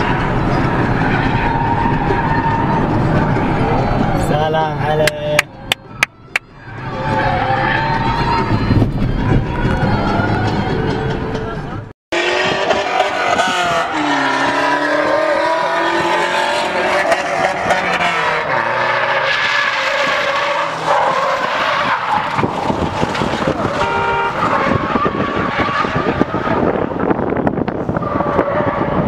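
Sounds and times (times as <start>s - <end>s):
car engine revving: 5.4s - 29.0s.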